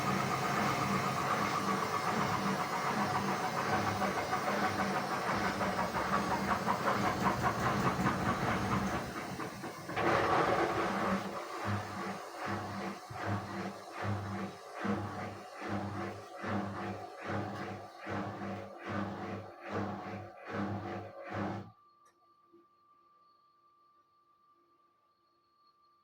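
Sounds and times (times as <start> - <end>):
washing machine motor humming: 0.0 - 21.7.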